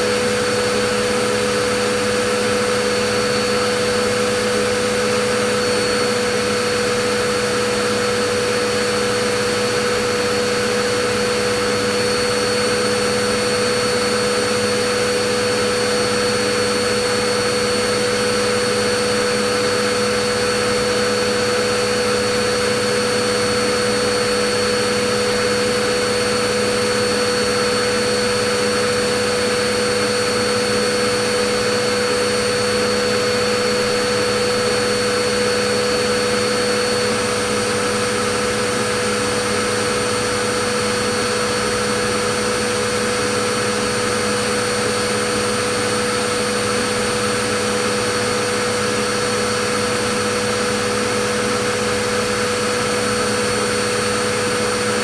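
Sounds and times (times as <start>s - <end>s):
vacuum cleaner motor running: 0.0s - 55.0s.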